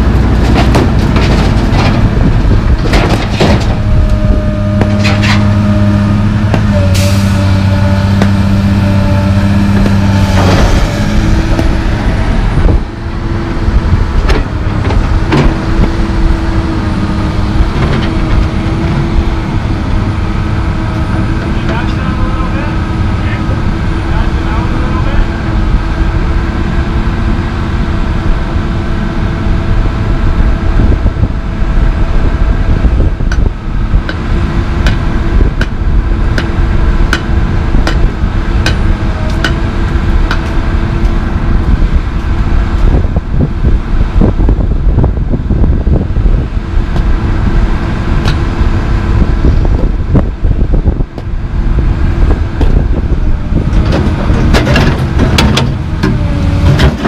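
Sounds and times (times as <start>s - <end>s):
excavator diesel engine running: 0.0s - 57.0s
hydraulics humming: 0.0s - 57.0s.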